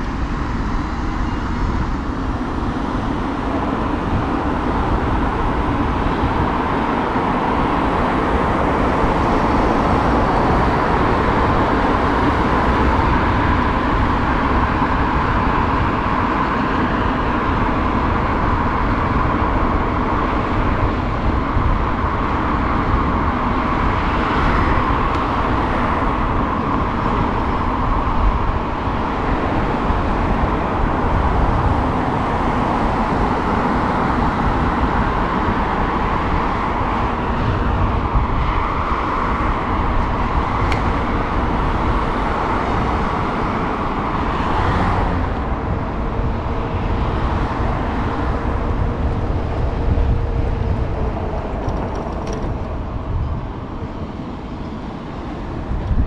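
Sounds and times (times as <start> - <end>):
city street traffic: 0.0 - 56.0
wind rumble on microphone: 0.0 - 56.0.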